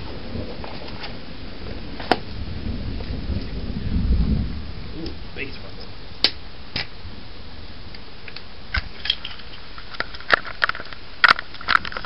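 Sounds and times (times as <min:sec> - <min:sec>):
heavy rain hissing: 0:00.0 - 0:11.6.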